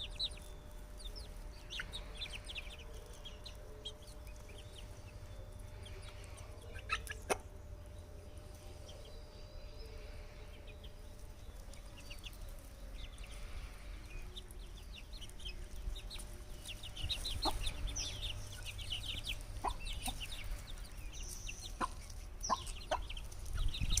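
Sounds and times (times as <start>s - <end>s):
chickens clucking: 0.0s - 24.0s
chicks peeping: 0.0s - 24.0s.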